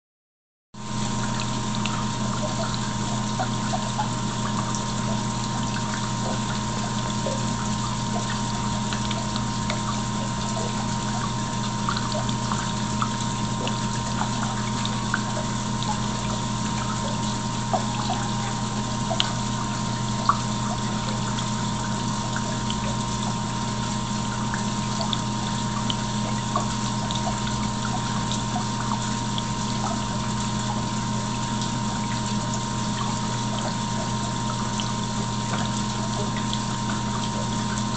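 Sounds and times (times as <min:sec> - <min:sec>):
aquarium pump humming: 0:00.8 - 0:37.9
water trickling: 0:00.8 - 0:37.9.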